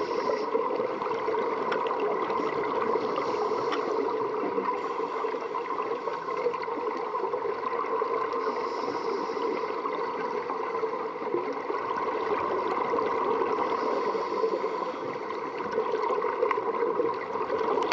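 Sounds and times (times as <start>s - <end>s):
underwater hiss: 0.0s - 17.8s
underwater hum: 0.0s - 17.9s.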